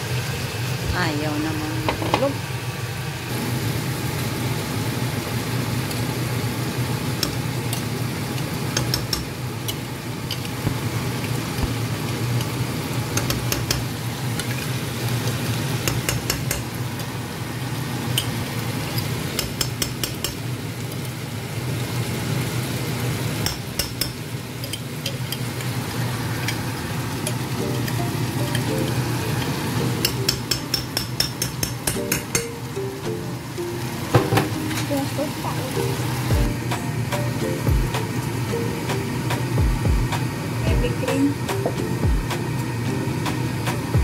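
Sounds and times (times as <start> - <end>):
meat sizzling in a pan: 2.3 - 40.6.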